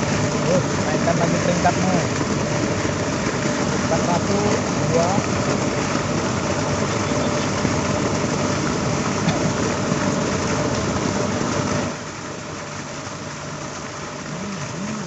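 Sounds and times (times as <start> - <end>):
engine-like hum: 0.0 - 15.0.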